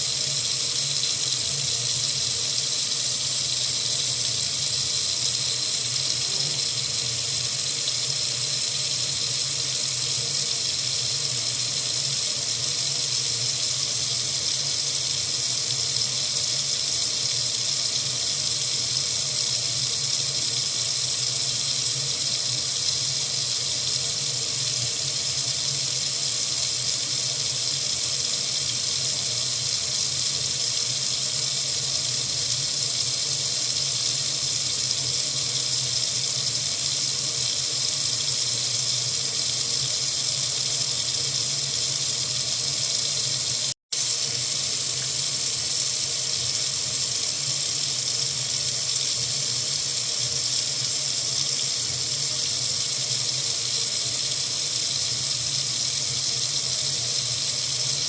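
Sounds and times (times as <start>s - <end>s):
faucet running into sink: 0.0s - 58.0s.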